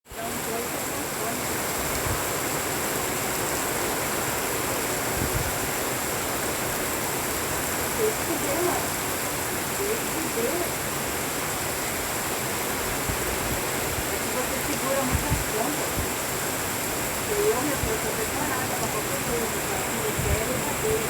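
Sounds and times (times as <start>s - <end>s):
steady rain falling: 0.1s - 21.0s.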